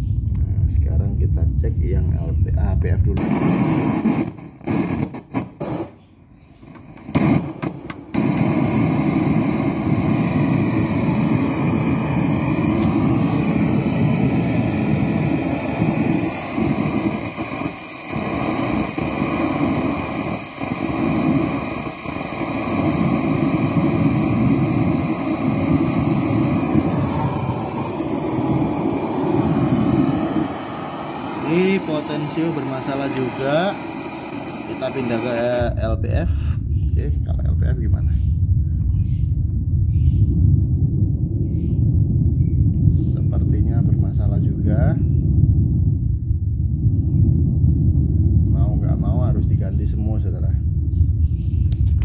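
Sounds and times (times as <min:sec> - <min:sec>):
low rumbling from speaker: 0:00.0 - 0:04.0, 0:08.2 - 0:52.0.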